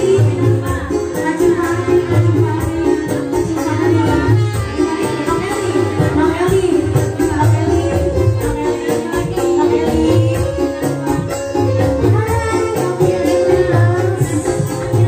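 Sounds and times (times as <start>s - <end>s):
fast hand-drum beat: 0.0s - 15.0s
live band playing through pa: 0.0s - 15.0s.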